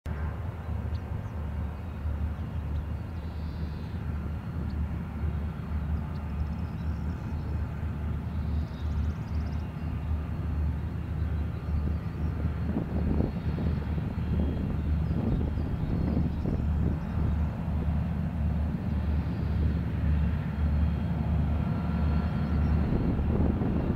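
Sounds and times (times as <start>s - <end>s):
distant diesel locomotive drone: 0.1s - 23.9s.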